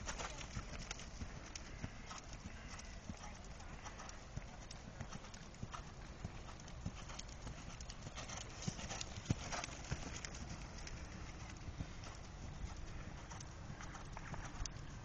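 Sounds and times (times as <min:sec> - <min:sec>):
horse hooves thudding on sand: 0:00.0 - 0:15.0.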